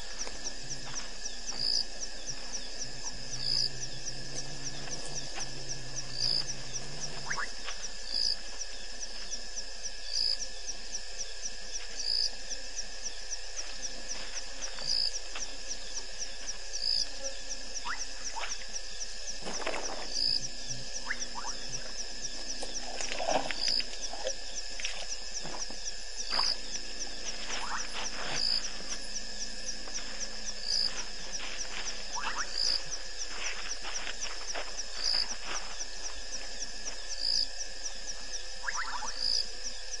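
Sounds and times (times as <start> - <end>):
faint frog and insect calls: 0.0 - 40.0.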